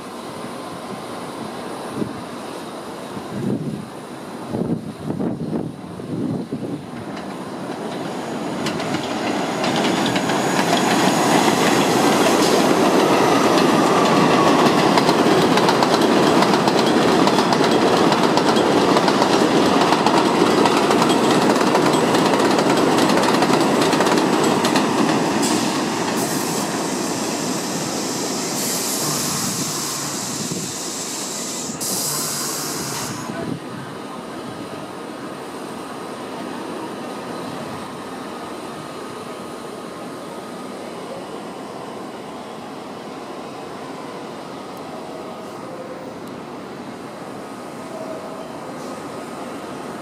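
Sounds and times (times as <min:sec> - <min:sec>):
subway train passing on rails: 0:00.0 - 0:50.0.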